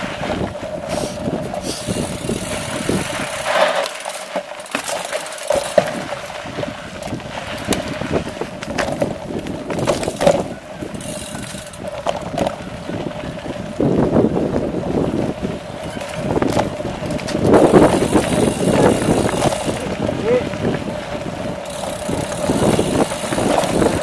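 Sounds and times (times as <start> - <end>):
wind on microphone: 0.0 - 3.8, 5.7 - 24.0
bike clicking and rattling: 0.0 - 24.0
bike tyres on dirt and stones: 0.0 - 24.0.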